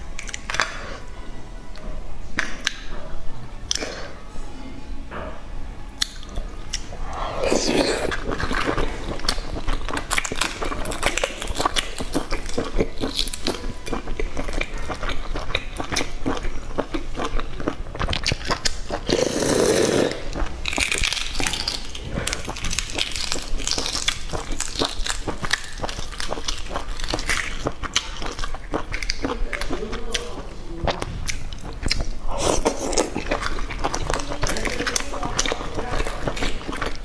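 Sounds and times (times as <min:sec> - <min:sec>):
eggshell crackling: 0:06.1 - 0:37.0.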